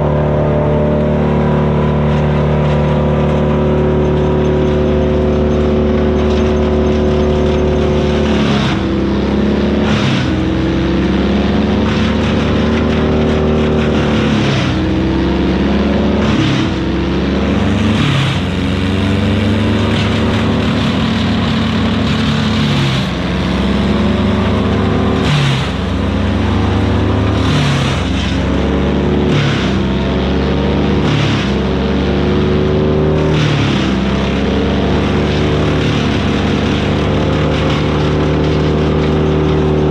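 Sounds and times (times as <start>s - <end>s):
wood chipper engine running: 0.0s - 39.9s
wood crackling and grinding: 0.0s - 39.9s.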